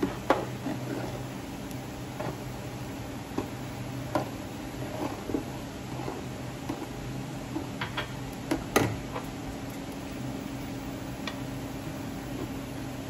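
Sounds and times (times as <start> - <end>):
cooktop humming: 0.0 - 13.0.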